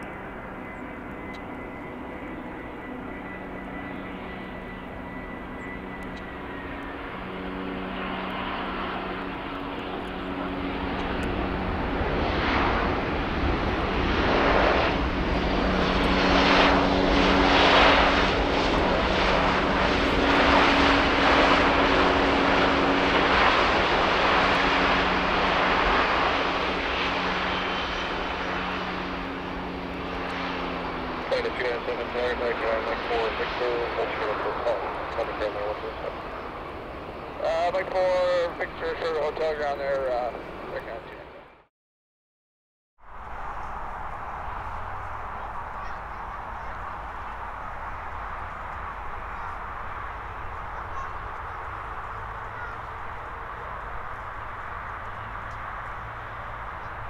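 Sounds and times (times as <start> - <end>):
jet engines on landing: 0.0 - 41.7, 43.0 - 57.0.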